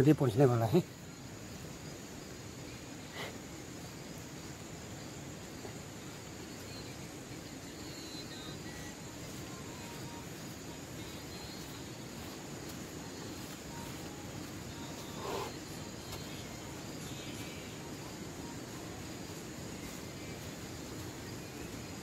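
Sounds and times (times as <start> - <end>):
background noise: 0.0 - 22.0
crickets chirping: 0.0 - 22.0.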